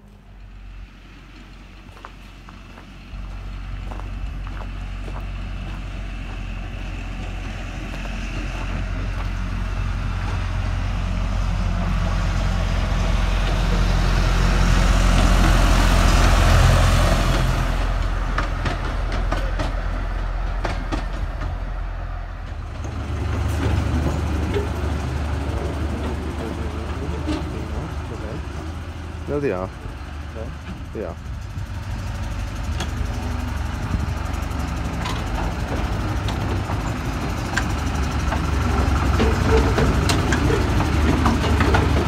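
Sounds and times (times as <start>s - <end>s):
diesel locomotive engine droning: 0.0s - 42.0s
wheels rushing on rails: 0.0s - 42.0s
wheels clicking on track: 1.2s - 42.0s.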